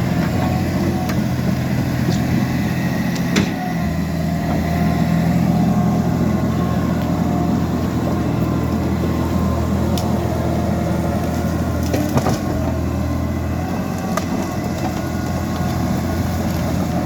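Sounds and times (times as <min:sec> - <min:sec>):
dozer diesel engine running: 0:00.0 - 0:17.0.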